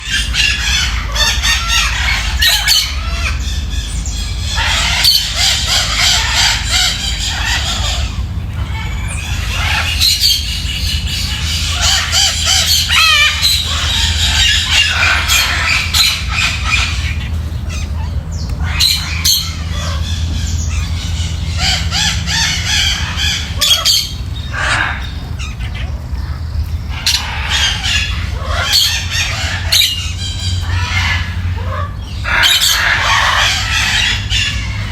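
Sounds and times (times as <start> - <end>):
parrots chattering and squawking: 0.0 - 34.9
steady low hum: 0.0 - 34.9.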